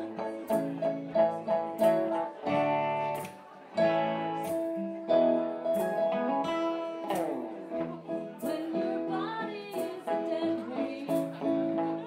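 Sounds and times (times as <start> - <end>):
guitars strummed and plucked: 0.0 - 12.0
keyboard: 0.0 - 12.0.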